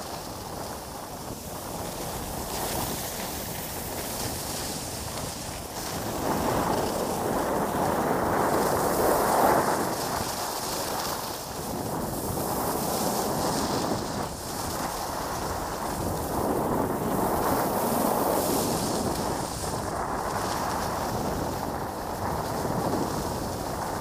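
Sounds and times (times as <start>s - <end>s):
skis sliding on packed snow: 0.0s - 24.0s
wind rushing over microphone: 0.0s - 24.0s.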